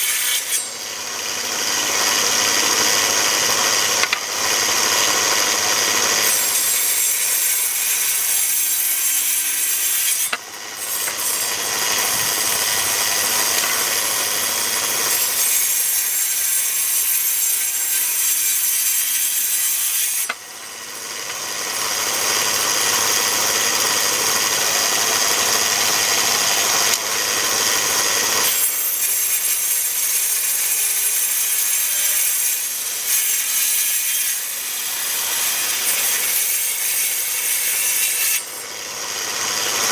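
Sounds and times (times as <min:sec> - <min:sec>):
thickness planer cutting wood: 0:00.0 - 0:39.9.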